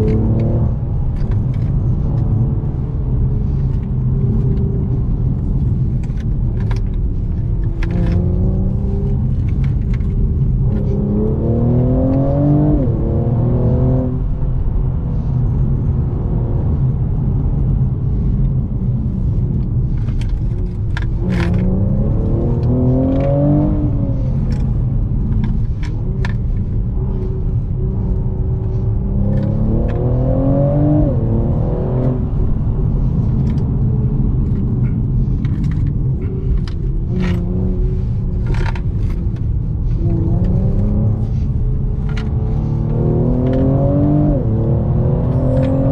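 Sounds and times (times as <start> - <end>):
car engine revving: 0.0 - 45.9
road rumble: 0.0 - 45.9.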